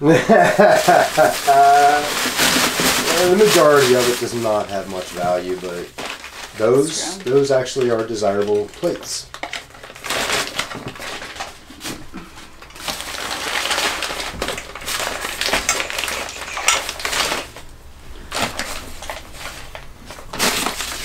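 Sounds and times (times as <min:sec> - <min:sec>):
packing material crinkling: 0:00.5 - 0:21.0.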